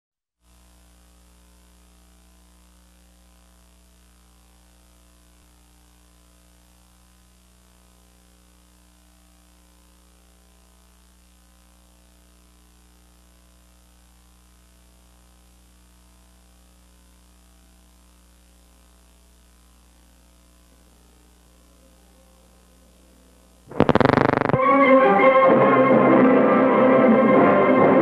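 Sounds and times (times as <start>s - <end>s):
electrical mains hum: 0.5s - 24.6s.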